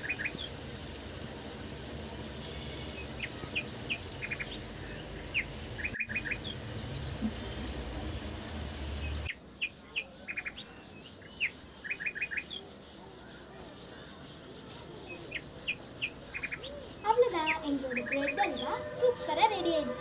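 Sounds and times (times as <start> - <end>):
low steady background noise: 0.0 - 20.0
small birds chirping: 0.0 - 20.0.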